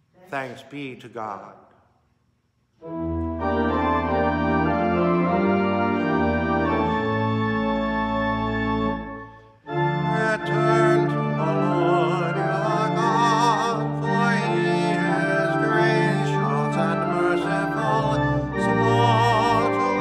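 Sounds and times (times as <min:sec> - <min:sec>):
organ playing sustained chords: 0:02.8 - 0:20.0.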